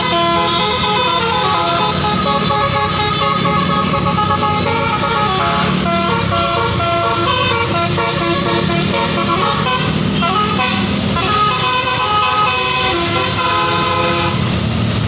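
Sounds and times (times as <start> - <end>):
bus horn playing a tune: 0.0 - 14.6.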